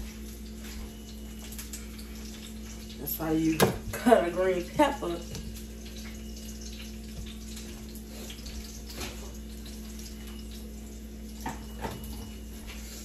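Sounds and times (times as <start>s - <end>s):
fish sizzling in a skillet: 0.0s - 11.8s.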